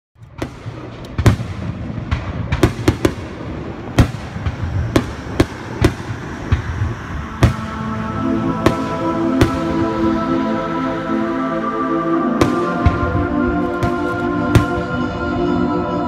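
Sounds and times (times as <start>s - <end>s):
low rumble: 0.2s - 16.0s.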